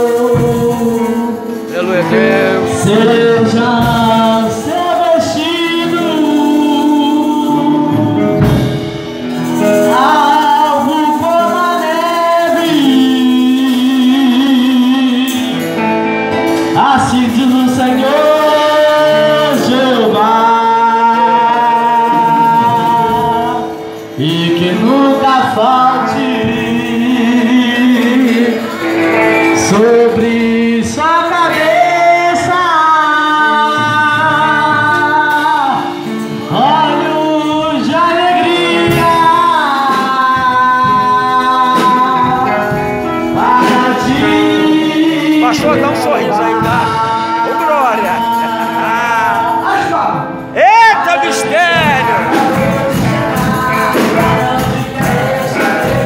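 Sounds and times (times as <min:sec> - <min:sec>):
acoustic guitar: 0:00.0 - 0:56.0
man singing into a microphone: 0:00.0 - 0:56.0.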